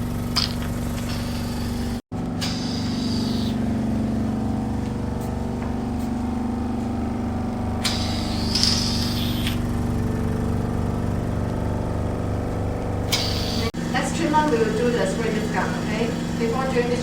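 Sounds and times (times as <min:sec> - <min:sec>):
pump motor humming: 0:00.0 - 0:17.0.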